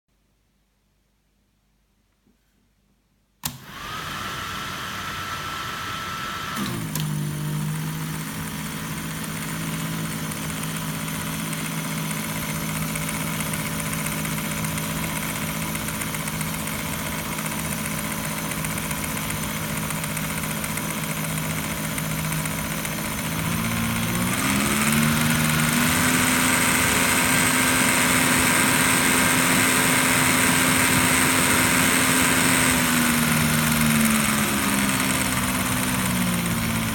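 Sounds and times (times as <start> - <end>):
film projector humming: 3.4 - 36.9.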